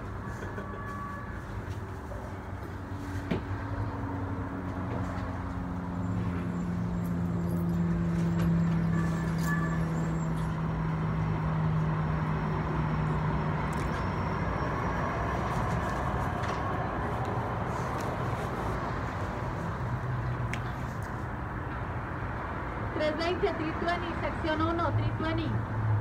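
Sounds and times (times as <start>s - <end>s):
street traffic noise: 0.0s - 26.0s.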